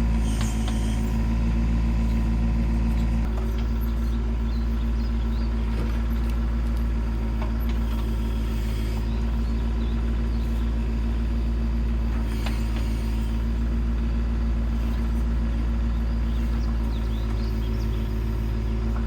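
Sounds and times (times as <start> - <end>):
engine droning steadily: 0.0 - 19.0.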